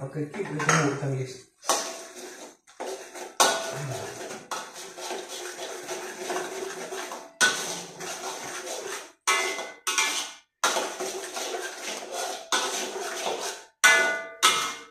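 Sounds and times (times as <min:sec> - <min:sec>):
metal spatula scraping wok: 0:01.6 - 0:14.9
spatula knocking wok: 0:01.7 - 0:14.9.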